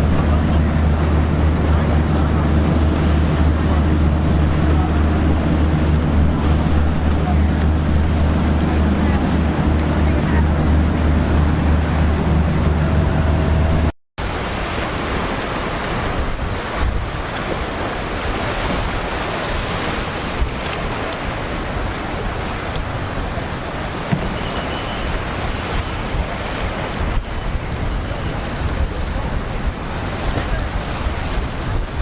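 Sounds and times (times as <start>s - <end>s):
boat engine rumble: 0.0s - 32.0s
surf: 0.0s - 32.0s
wind buffeting microphone: 0.0s - 32.0s.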